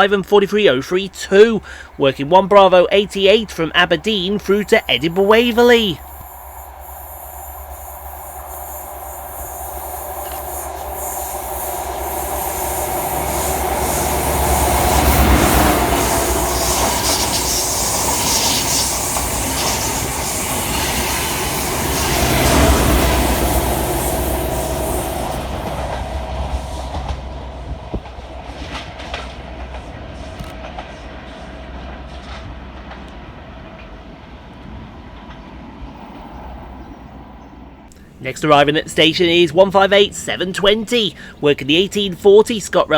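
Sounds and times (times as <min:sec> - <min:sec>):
high-speed train passing: 0:00.0 - 0:42.9
rail clickety-clack: 0:00.0 - 0:42.9
train rumble: 0:00.0 - 0:42.9.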